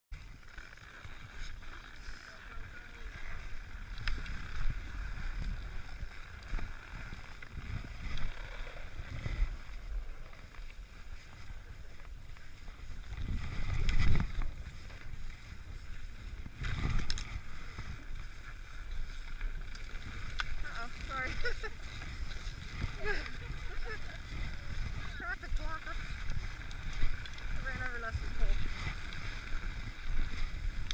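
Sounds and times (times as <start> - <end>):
wind rumbling on microphone: 0.1 - 30.9
skis scraping over snow: 0.2 - 30.9.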